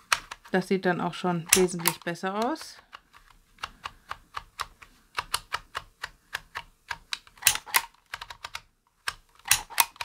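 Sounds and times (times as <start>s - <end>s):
label maker wheel clicking: 1.4s - 10.0s.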